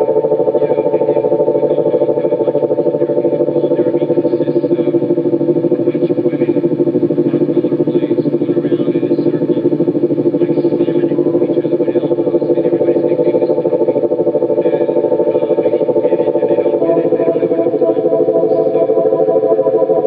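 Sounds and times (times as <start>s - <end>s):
pulsing low electronic drone: 0.0s - 20.0s.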